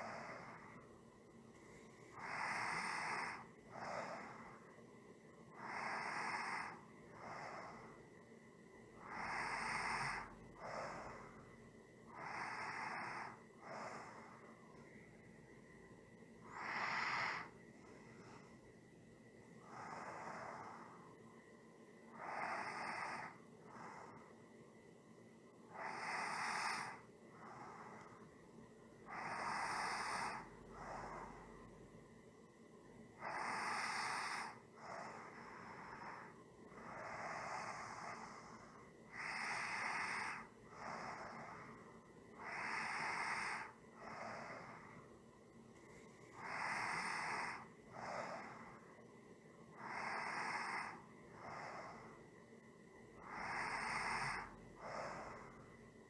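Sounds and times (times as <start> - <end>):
person breathing slowly: 0.0 - 18.9, 19.5 - 21.2, 22.0 - 24.6, 25.7 - 31.9, 33.1 - 56.0.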